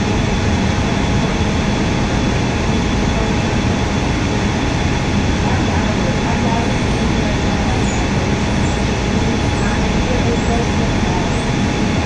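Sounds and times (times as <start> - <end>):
faint steady whine: 0.0 - 12.0
train equipment hum and hiss: 0.0 - 12.0.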